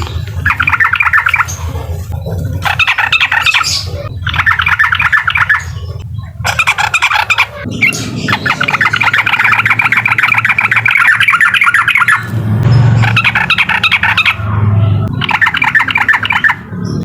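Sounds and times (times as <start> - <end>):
bird rattling call: 0.0 - 14.5, 15.1 - 16.7.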